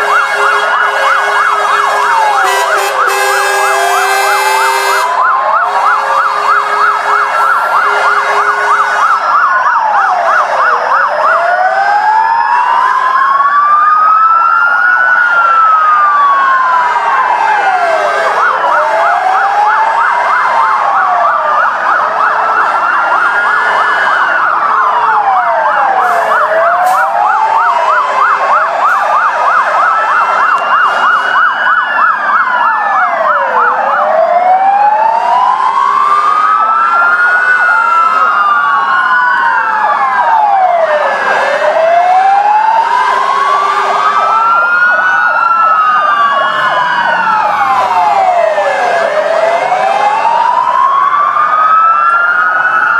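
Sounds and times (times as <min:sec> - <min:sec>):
fire truck sirens wailing: 0:00.0 - 0:52.9
low steady siren tones: 0:00.0 - 0:52.9
siren fast yelp: 0:00.0 - 0:52.9.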